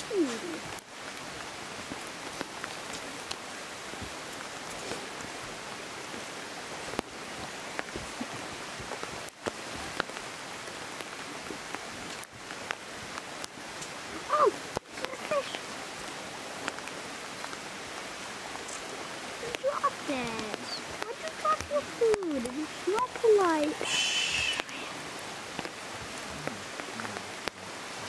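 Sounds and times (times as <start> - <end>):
light clicks and splashes: 0.0 - 5.5, 6.8 - 27.7
river running over gravel: 0.0 - 28.0.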